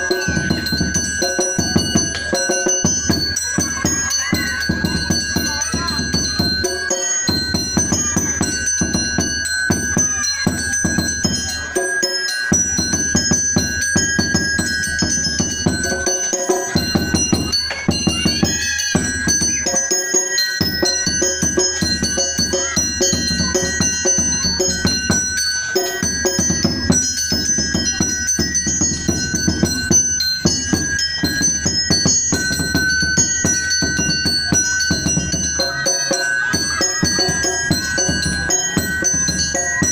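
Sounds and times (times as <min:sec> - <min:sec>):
fast mallet percussion music: 0:00.0 - 0:39.9.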